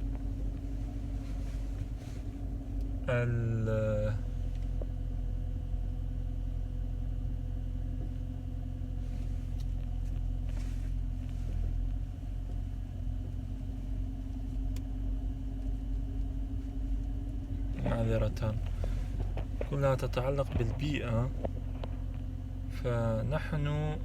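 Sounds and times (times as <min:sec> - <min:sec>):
motor rumbling: 0:00.0 - 0:24.0.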